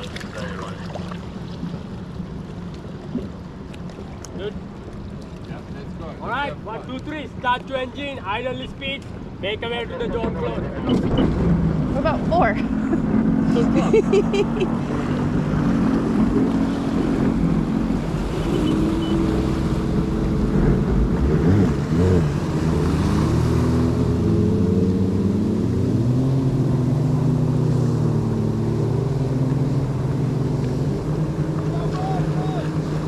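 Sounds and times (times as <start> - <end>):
jet ski engines idling: 0.0 - 24.6, 26.9 - 33.0.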